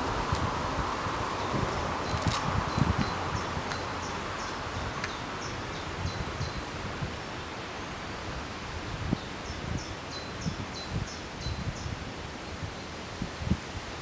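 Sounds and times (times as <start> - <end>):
wind rustling leaves: 0.0 - 14.0.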